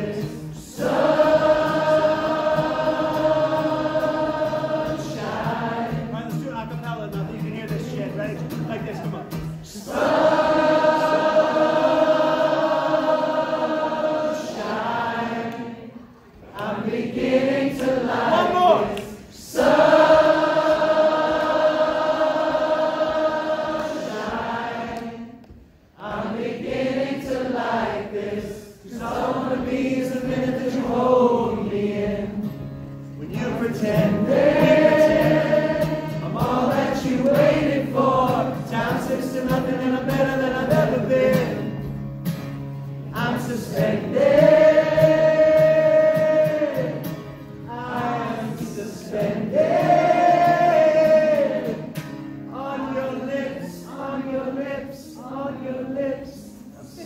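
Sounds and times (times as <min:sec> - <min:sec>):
crowd singing along: 0:00.0 - 0:06.3, 0:09.5 - 0:57.0
acoustic guitar: 0:00.0 - 0:57.0.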